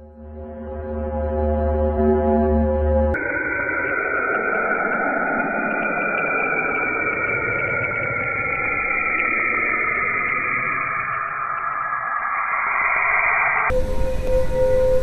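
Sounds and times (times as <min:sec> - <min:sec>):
slowly falling tones: 0:01.0 - 0:15.0.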